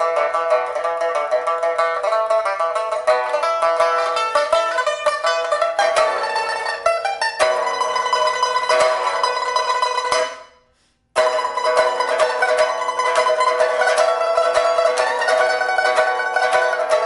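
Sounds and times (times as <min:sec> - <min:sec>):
pipa fast plucking: 0:00.0 - 0:17.0.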